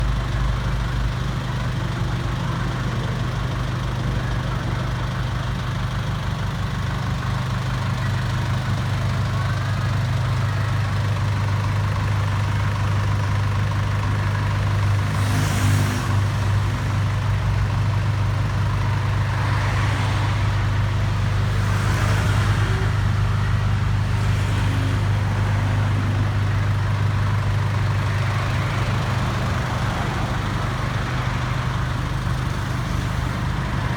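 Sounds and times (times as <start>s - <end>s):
vehicle engine idling: 0.0s - 15.2s, 16.0s - 33.9s.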